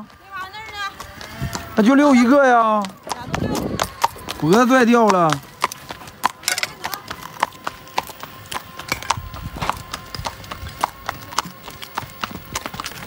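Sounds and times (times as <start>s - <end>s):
horse hooves on concrete: 0.0s - 13.0s.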